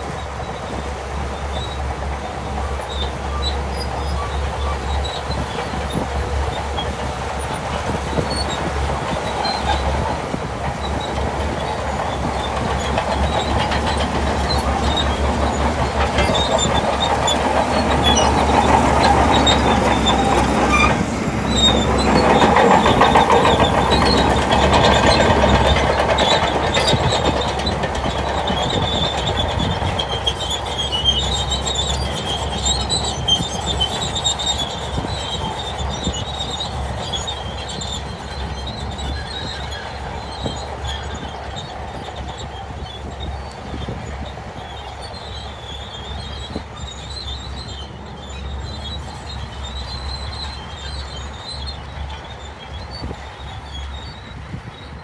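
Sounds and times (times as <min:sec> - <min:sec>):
bulldozer engine and tracks: 0:00.0 - 0:55.0.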